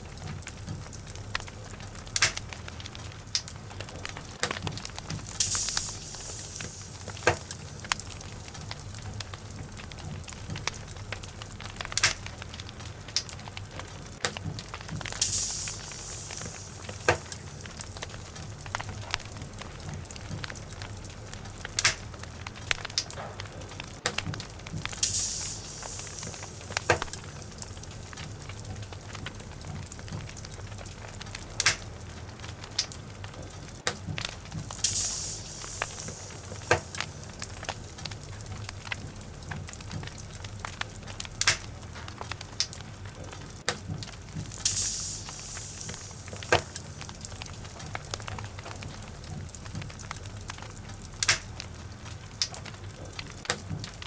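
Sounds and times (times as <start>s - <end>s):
hiss of burning wood: 0.0s - 54.0s
log fire crackling and popping: 0.0s - 54.0s.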